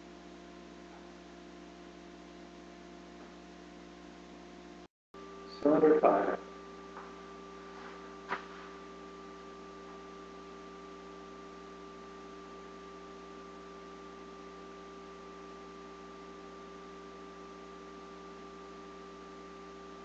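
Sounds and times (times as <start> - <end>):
electrical hum with tones: 0.0 - 20.0.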